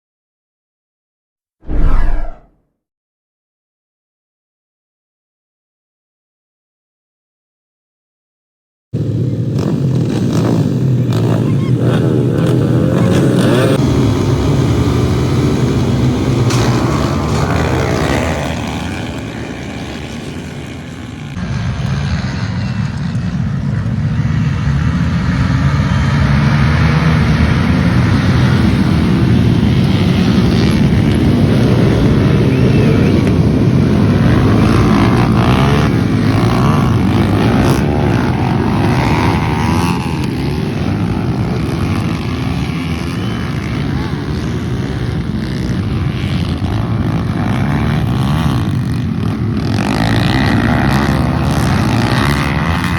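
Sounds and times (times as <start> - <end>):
dirt bike engines running: 9.0 - 52.9.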